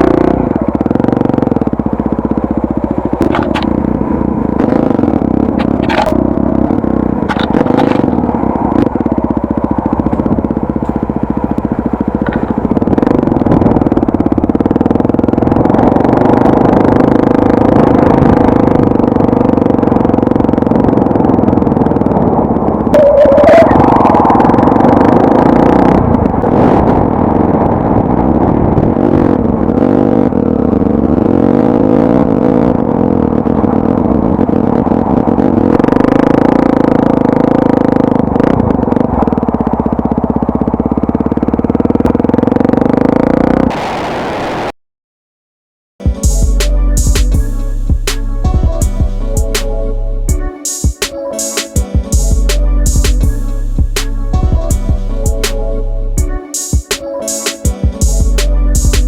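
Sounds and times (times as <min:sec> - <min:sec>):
motorcycle engine running: 0:00.0 - 0:44.6, 0:46.0 - 0:59.0.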